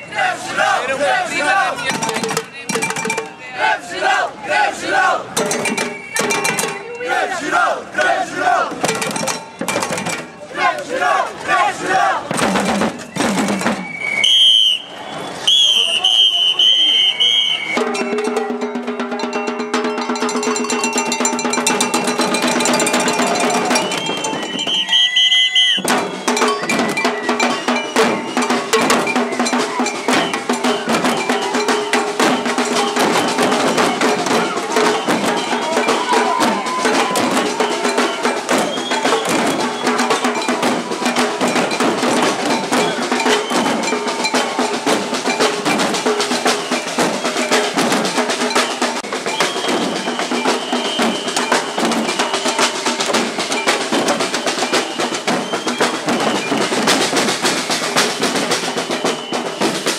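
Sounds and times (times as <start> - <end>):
crowd beating metal and drums: 0.0 - 59.9.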